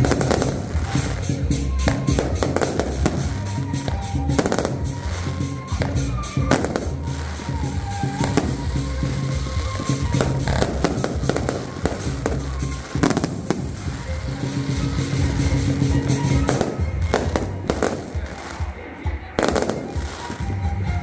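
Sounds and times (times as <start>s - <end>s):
background music: 0.0s - 21.0s
fireworks booming and crackling: 0.0s - 21.0s.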